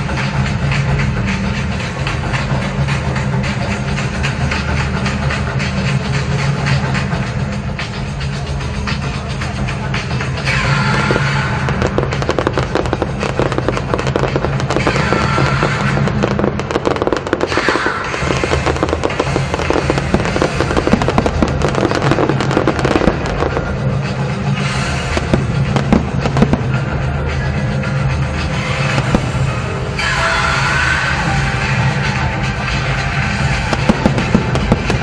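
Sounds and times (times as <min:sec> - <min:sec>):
fireworks crackling and popping: 0:00.0 - 0:30.2, 0:31.4 - 0:35.0
background music: 0:00.0 - 0:35.0.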